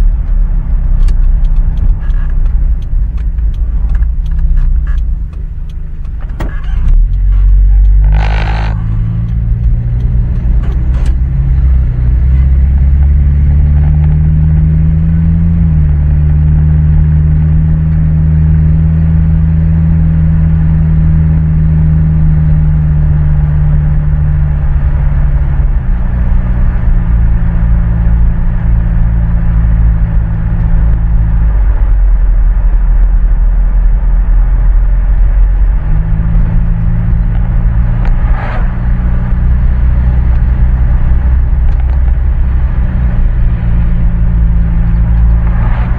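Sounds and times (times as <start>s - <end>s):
truck engine drone: 0.0s - 45.9s.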